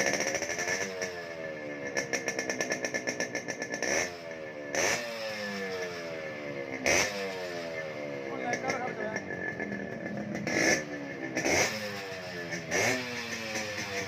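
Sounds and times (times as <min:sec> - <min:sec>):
two-stroke motorcycle engine revving: 0:00.0 - 0:14.0.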